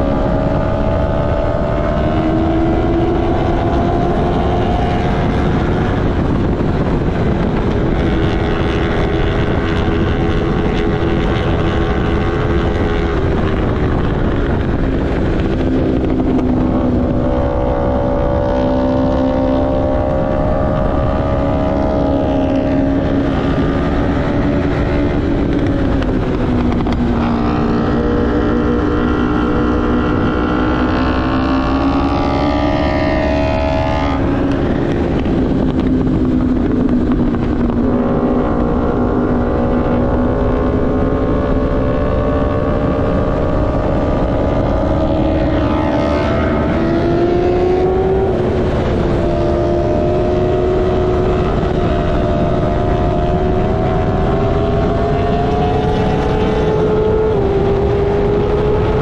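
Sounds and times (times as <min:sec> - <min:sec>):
motorcycle engine at high revs: 0:00.0 - 0:59.0
wind rushing on microphone: 0:00.0 - 0:59.0.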